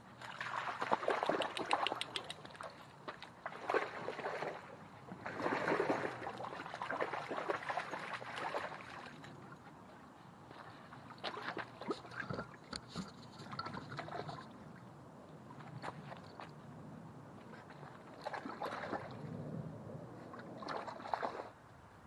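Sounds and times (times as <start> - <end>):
dogs splashing through water: 0.1 - 21.6.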